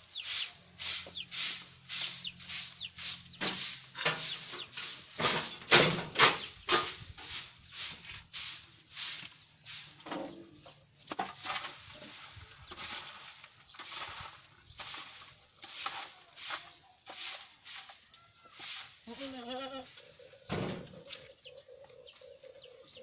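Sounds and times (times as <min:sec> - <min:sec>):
grass broom sweeping floor: 0:00.0 - 0:20.2.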